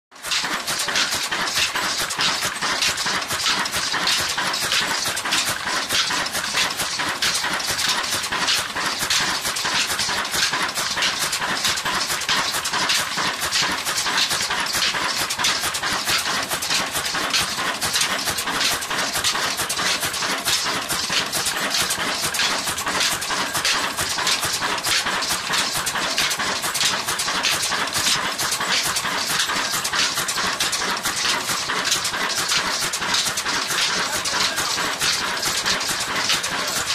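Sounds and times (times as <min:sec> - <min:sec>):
diesel engine clattering: 0:00.1 - 0:36.9.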